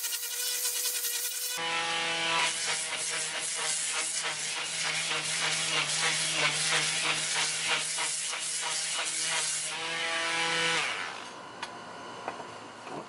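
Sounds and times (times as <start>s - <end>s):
electric sander on wood: 0.0s - 11.3s.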